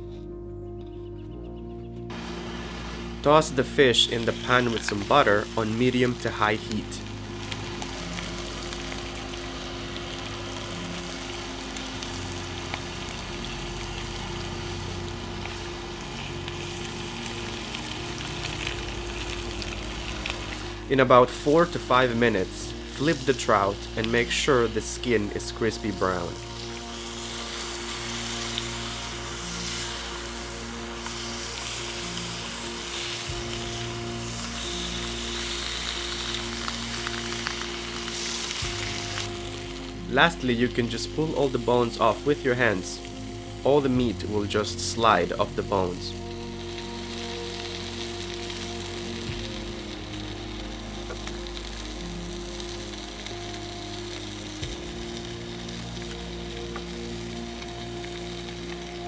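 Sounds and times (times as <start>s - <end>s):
soft background music: 0.0s - 59.0s
fish sizzling in frying pan: 2.1s - 59.0s.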